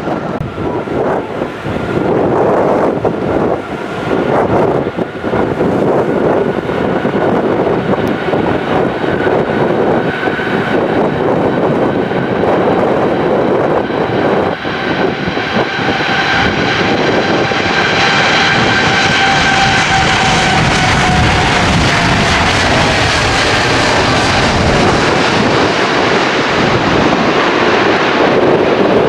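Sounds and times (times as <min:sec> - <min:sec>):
jet engines whining: 0:00.0 - 0:29.0
wind buffeting microphone: 0:00.0 - 0:29.0.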